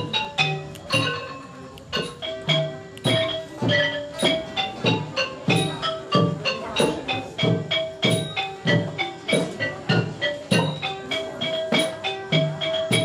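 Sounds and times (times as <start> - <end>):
drum strikes: 0.0 - 13.0
mallet percussion melody: 0.0 - 13.0.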